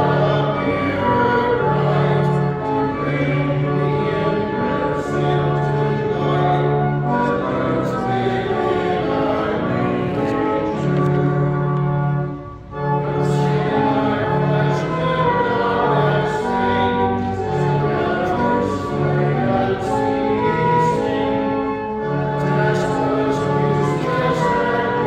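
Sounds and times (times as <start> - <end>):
congregation singing a hymn: 0.0 - 25.0
instrumental accompaniment: 0.0 - 25.0.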